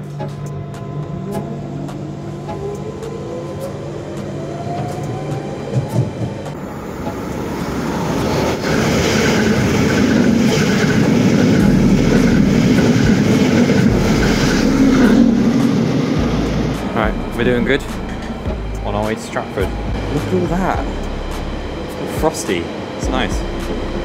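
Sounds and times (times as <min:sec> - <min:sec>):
train motor whine rising: 0:00.0 - 0:24.0
train rushing past: 0:00.0 - 0:24.0.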